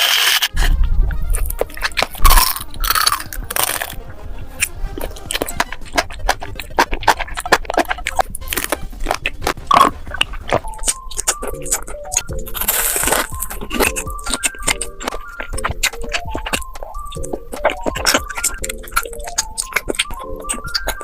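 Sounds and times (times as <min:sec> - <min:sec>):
crunchy food being chewed: 0:00.0 - 0:21.0.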